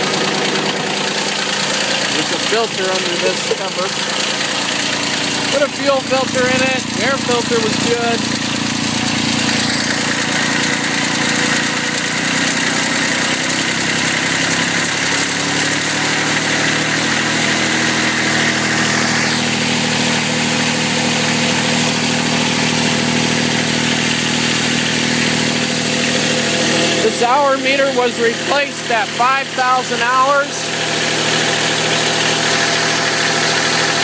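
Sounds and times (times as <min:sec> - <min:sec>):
tractor diesel engine idling: 0:00.0 - 0:34.0.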